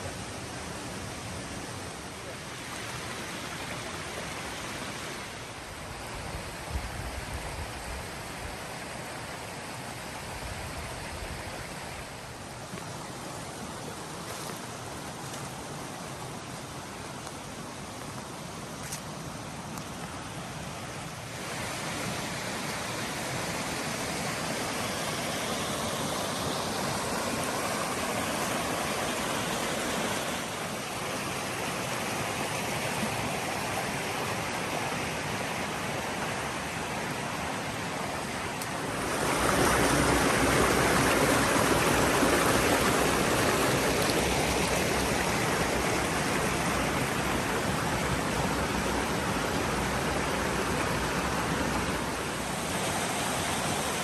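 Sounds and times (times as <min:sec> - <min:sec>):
creek water rushing: 0:00.0 - 0:54.0.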